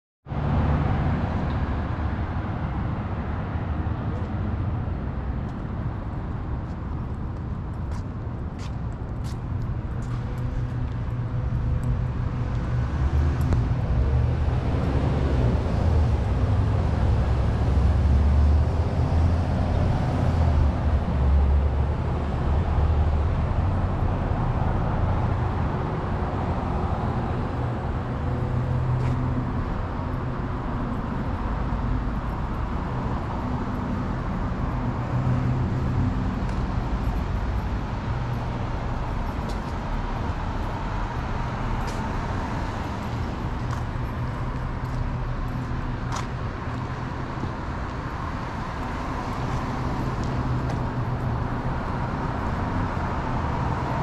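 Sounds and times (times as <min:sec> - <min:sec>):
town street background: 0:00.2 - 0:54.0
vehicle engine rumbling: 0:00.3 - 0:54.0.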